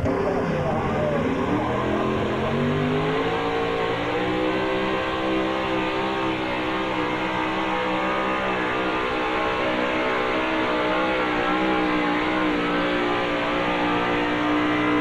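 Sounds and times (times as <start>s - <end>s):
truck engine running hard: 0.0s - 15.0s.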